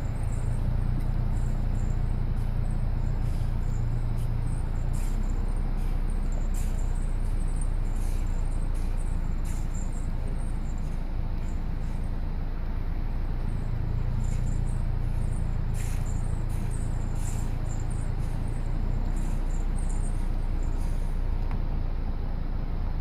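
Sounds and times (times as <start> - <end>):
faint high-pitched chirps: 0.0 - 12.2, 13.4 - 21.2
vehicle engine idling: 0.0 - 23.0.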